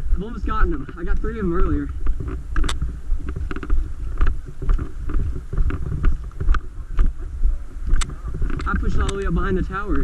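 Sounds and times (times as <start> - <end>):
footsteps: 0.0 - 10.0
wind buffeting microphone: 0.0 - 10.0.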